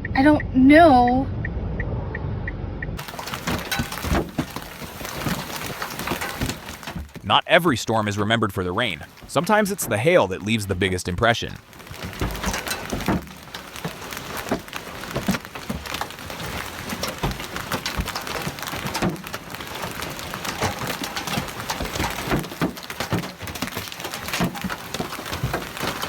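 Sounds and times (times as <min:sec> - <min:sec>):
hailstones pelting down: 0:03.0 - 0:26.0
rain-like hiss: 0:03.0 - 0:26.0.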